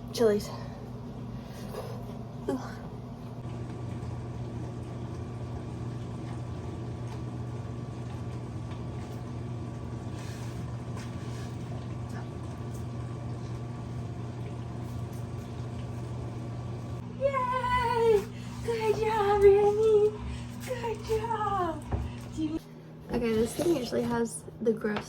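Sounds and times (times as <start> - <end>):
appliance motor humming: 0.0 - 25.0.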